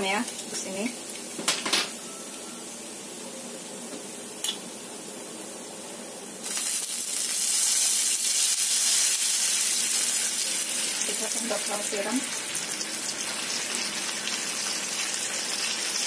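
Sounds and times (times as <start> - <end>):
spice paste sizzling in oil: 0.0 - 16.0.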